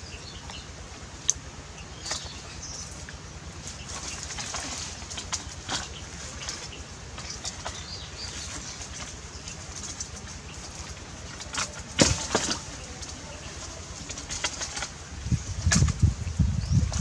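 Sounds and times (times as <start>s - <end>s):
stream rushing: 0.0s - 16.3s
branches scraping over stones: 1.9s - 17.0s.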